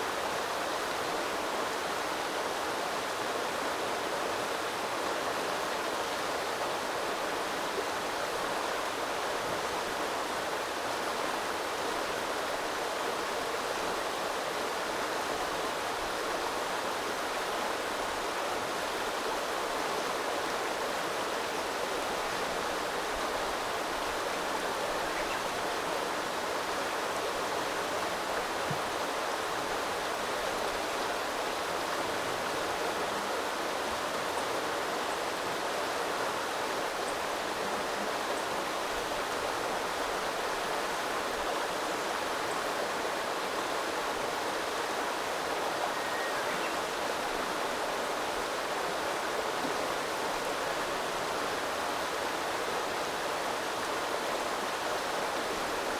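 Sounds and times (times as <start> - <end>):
small river flowing: 0.0 - 55.9.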